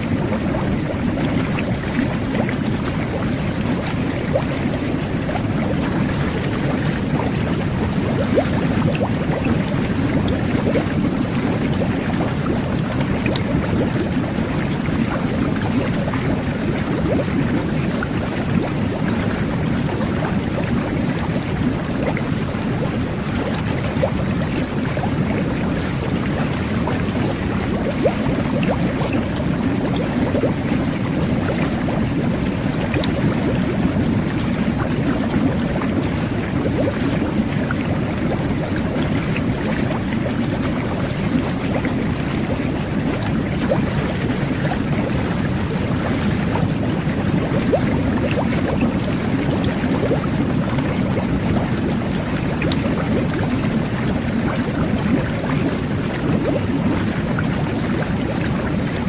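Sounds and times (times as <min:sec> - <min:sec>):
whirlpool tub water bubbling: 0:00.0 - 0:59.0.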